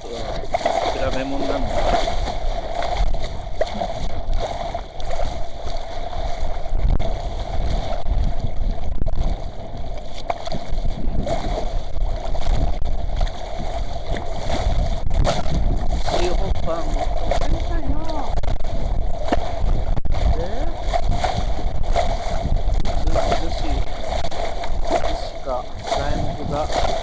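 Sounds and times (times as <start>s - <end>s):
steady hum: 0.0s - 27.0s
water splashing along hull: 0.0s - 27.0s
wind buffeting microphone: 0.0s - 27.0s.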